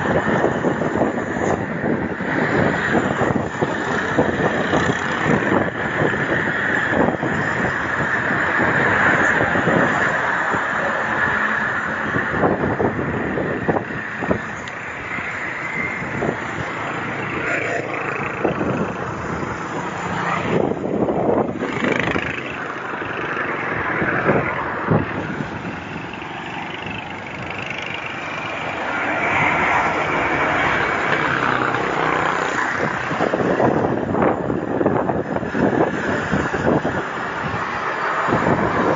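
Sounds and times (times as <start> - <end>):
passing road traffic: 0.0 - 38.9
wind buffeting microphone: 0.0 - 38.9.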